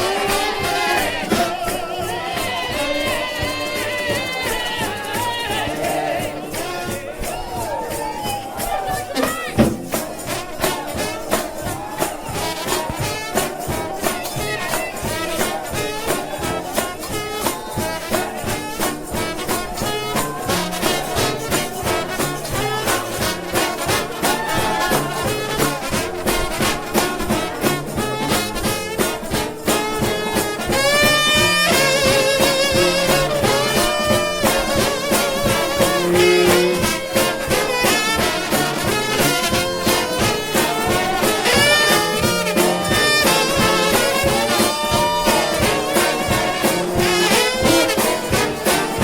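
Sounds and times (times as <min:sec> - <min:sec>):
fast percussion beat: 0:00.0 - 0:49.0
trombone band playing gospel: 0:00.0 - 0:49.0.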